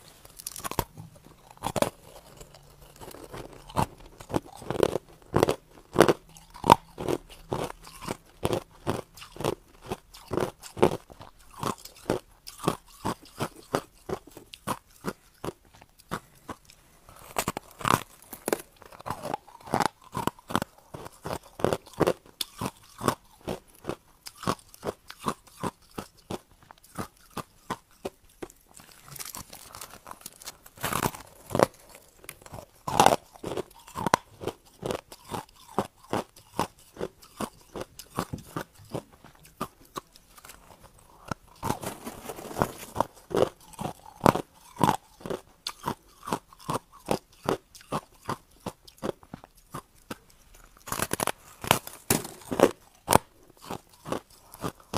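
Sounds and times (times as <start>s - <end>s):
crushed ice being chewed: 0.0s - 54.9s.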